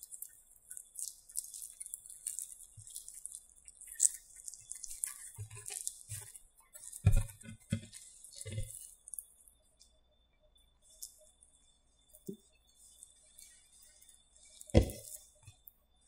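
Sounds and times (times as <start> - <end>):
dough rustling and crackling: 0.0 - 10.0, 10.8 - 16.0.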